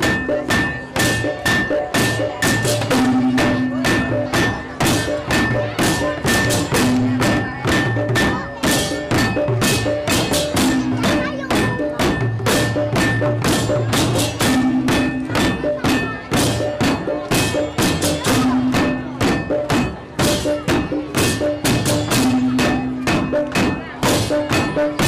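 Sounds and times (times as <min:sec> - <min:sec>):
cymbals: 0:00.0 - 0:25.0
gamelan drums: 0:00.0 - 0:25.0.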